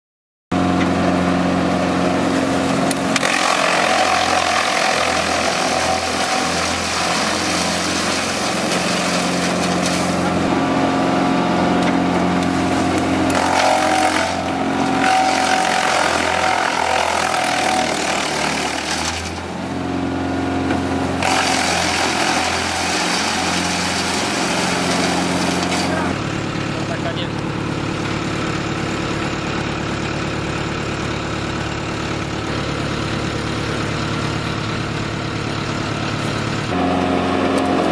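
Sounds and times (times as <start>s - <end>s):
diesel engine droning: 0.5s - 37.9s
wood chipper chipping: 0.6s - 37.9s.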